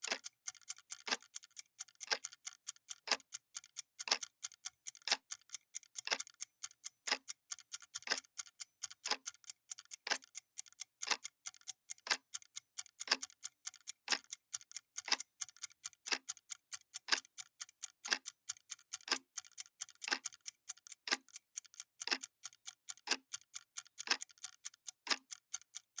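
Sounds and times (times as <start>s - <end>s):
clock ticking: 0.0s - 26.0s.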